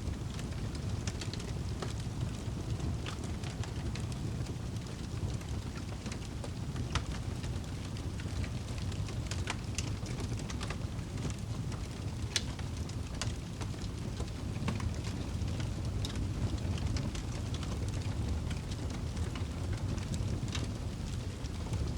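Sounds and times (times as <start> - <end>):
fire crackles and pops: 0.0 - 21.9
wood fire flames rumbling: 0.0 - 21.9.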